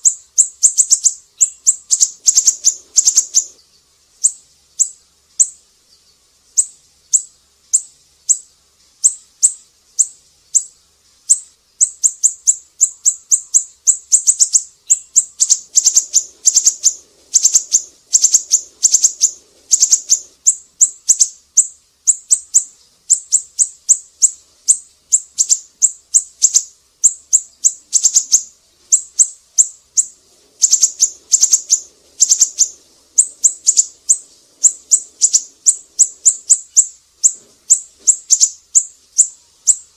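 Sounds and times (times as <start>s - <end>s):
bird chirping in rattling runs: 0.0s - 39.9s.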